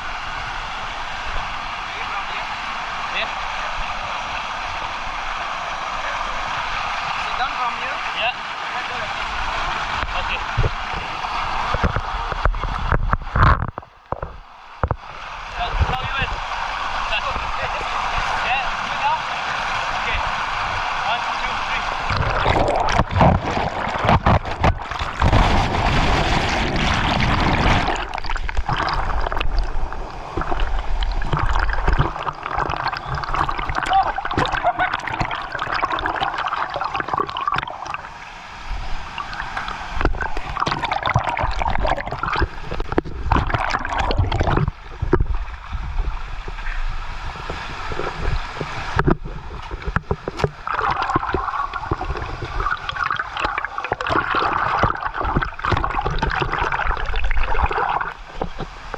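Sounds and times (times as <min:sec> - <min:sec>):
rushing waterfall: 0:00.0 - 0:58.9
water buffeting microphone: 0:00.0 - 0:58.9.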